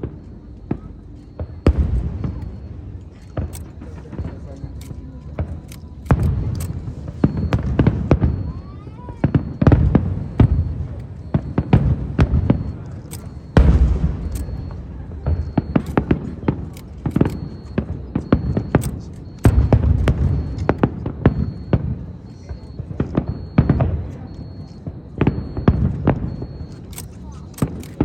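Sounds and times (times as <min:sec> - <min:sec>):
fireworks booming: 0:00.0 - 0:04.8, 0:05.4 - 0:26.7.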